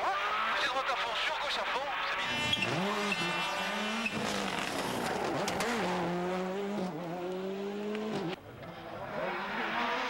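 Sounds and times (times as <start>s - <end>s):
rally car engine revving high: 1.6s - 10.0s.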